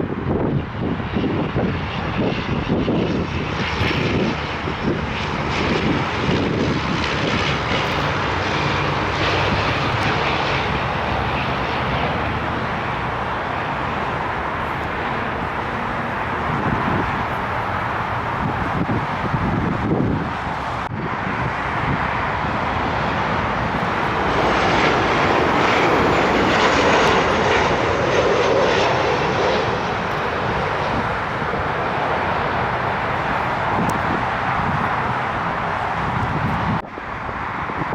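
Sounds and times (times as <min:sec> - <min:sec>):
jet airliner engine rushing: 0:00.0 - 0:37.9
wind buffeting microphone: 0:00.0 - 0:37.9.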